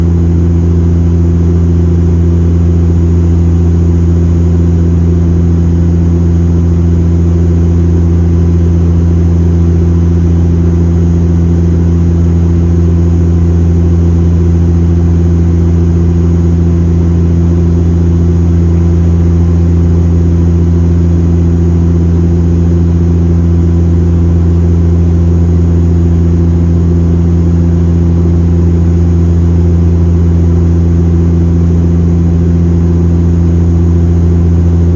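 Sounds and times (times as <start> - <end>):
airplane engine drone in cabin: 0.0 - 34.9.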